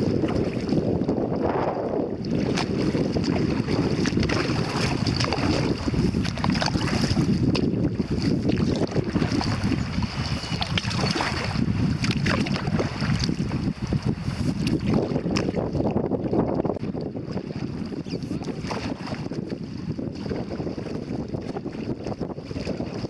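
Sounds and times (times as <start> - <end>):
paddles splashing in water: 0.0 - 23.0
wind buffeting microphone: 0.0 - 23.0.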